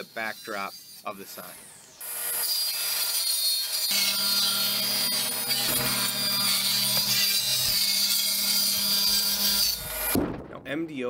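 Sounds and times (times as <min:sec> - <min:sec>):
table saw cutting wood: 0:00.0 - 0:10.2.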